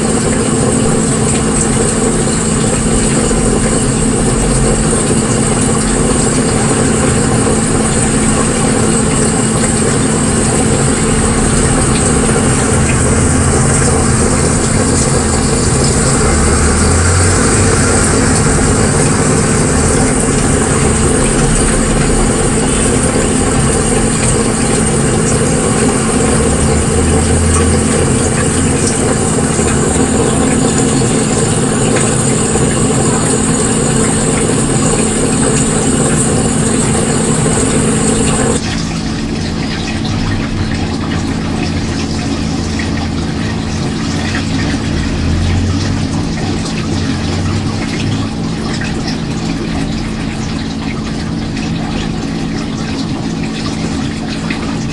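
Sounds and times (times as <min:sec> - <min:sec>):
hiss of air and water churning: 0:00.0 - 0:54.9
pump hum: 0:00.0 - 0:54.9.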